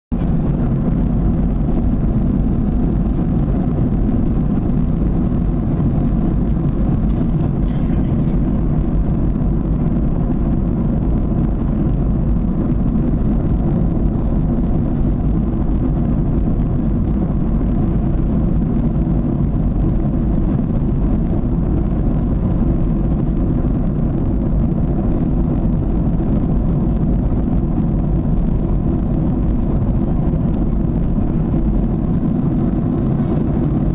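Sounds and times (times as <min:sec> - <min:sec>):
airliner engines rumbling: 0:00.1 - 0:33.9.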